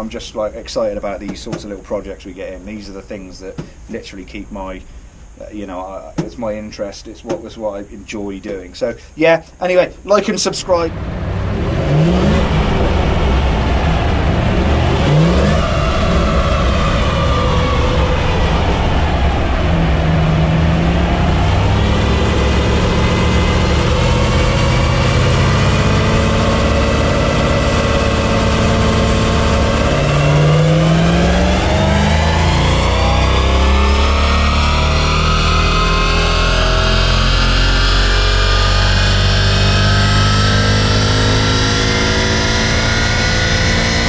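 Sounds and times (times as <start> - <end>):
car engine under load: 0.0 - 44.0.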